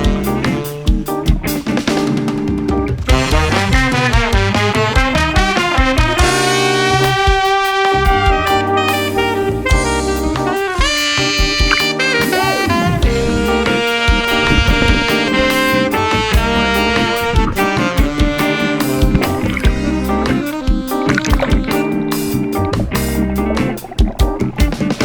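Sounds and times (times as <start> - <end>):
saxophone-led horn melody: 0.0 - 1.6, 3.0 - 23.7
drum kit beat: 0.0 - 25.0.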